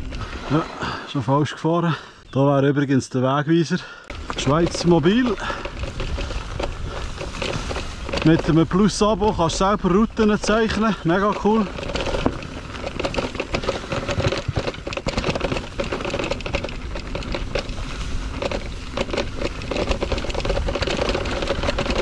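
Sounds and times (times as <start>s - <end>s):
bike tyres on dirt: 0.0s - 2.5s, 3.8s - 22.0s
chain and frame rattling: 4.1s - 22.0s.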